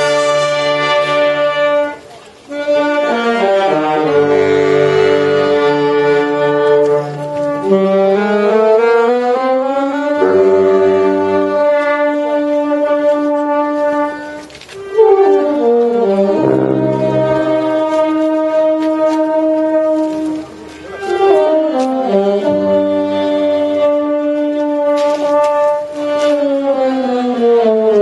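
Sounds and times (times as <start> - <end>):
brass band playing slow melody: 0.0 - 28.0.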